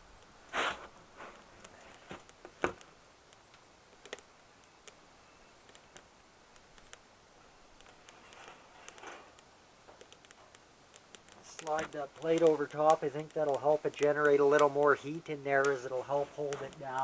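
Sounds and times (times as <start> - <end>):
wood crackling in stove: 0.0 - 17.0.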